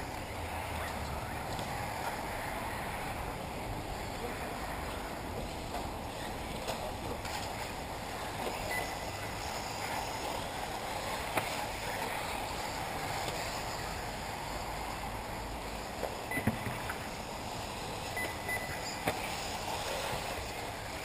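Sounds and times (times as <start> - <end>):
distant rc cars hissing: 0.0 - 21.0.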